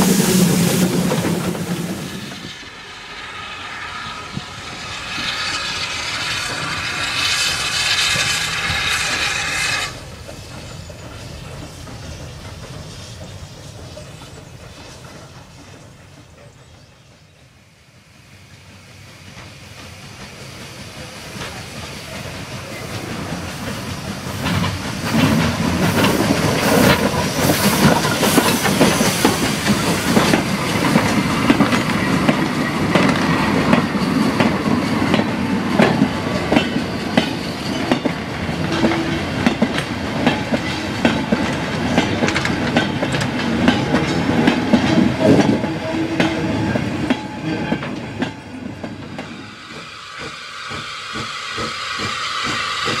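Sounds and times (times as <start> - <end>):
steam locomotive: 0.0 - 53.0.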